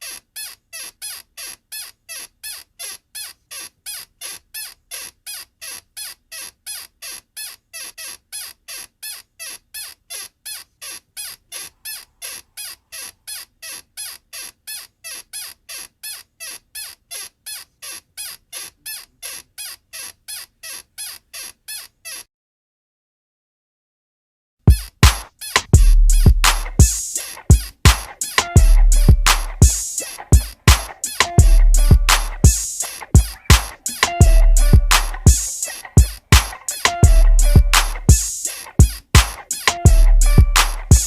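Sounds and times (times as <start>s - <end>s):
high-pitched squeak: 0.0s - 22.3s, 24.7s - 41.0s.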